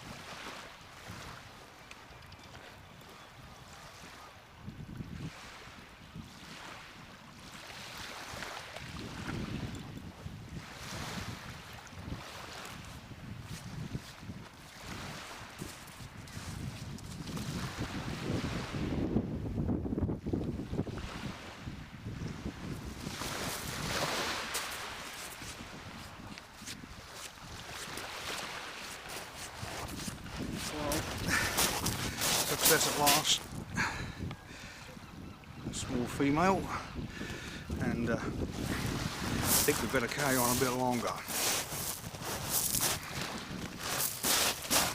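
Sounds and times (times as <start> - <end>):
small waves breaking on beach: 0.0 - 19.1, 20.5 - 35.0, 35.7 - 44.9
wind buffeting microphone: 2.9 - 44.9.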